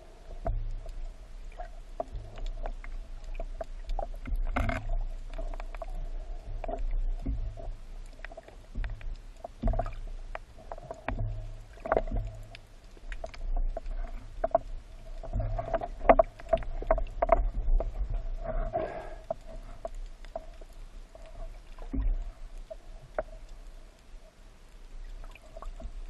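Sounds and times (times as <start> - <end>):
underwater rumble of moving water: 0.0 - 26.0.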